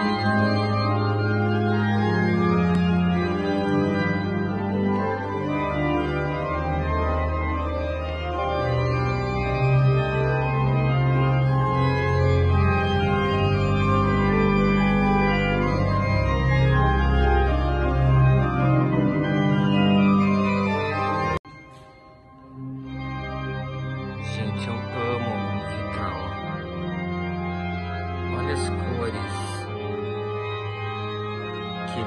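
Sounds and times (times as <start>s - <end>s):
pipe organ chords: 0.0s - 32.0s.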